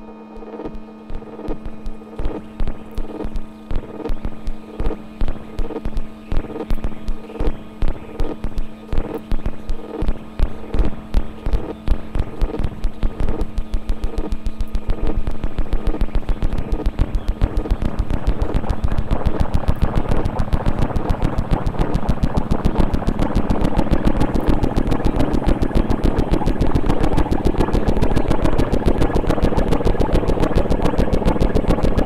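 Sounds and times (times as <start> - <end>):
droning synthesizer tones: 0.0 - 32.0
fast pulsing beat: 0.0 - 32.0.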